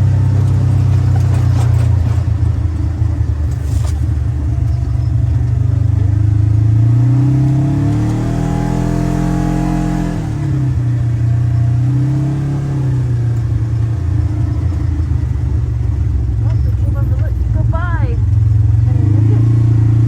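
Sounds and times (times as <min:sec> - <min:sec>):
engine revving under load: 0:00.0 - 0:16.1, 0:18.3 - 0:20.0.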